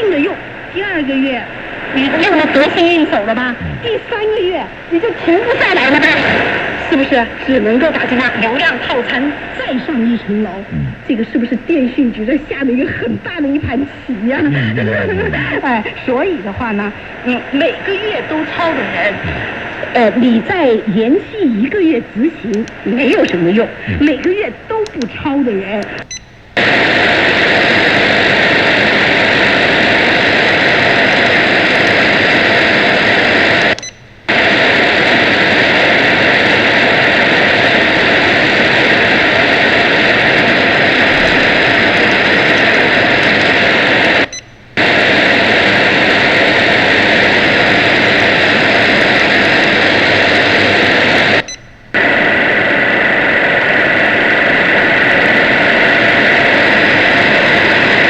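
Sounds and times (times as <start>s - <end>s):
radio static rushing noise: 0.0s - 58.0s.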